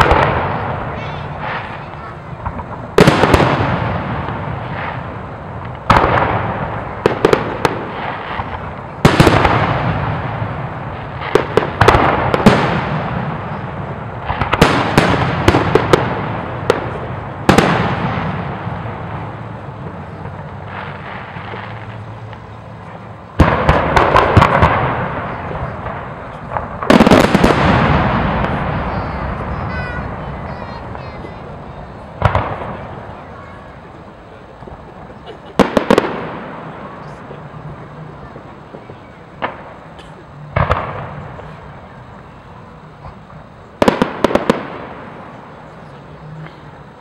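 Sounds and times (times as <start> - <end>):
firework crackling: 0.0 - 47.0
firework shells booming: 0.0 - 47.0.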